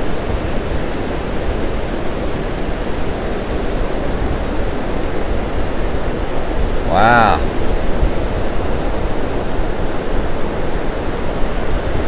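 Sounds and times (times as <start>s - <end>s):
surf washing up beach: 0.0s - 12.0s.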